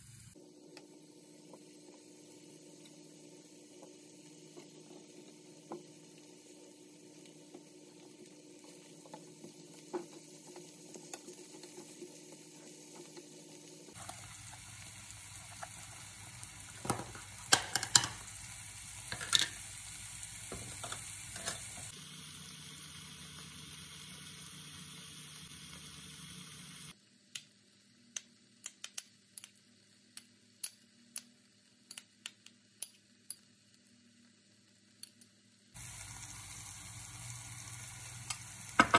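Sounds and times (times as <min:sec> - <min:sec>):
mushrooms sizzling in a pan: 0:00.0 - 0:38.9.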